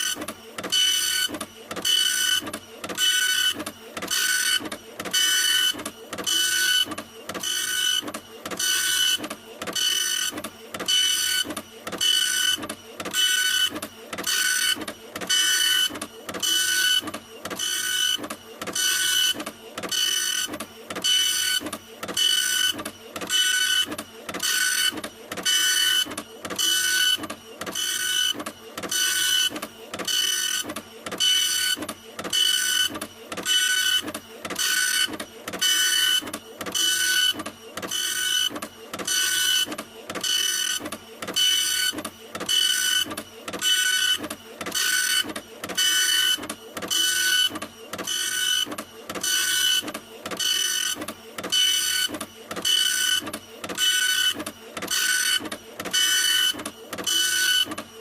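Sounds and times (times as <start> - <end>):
printer whirring: 0.0 - 58.0.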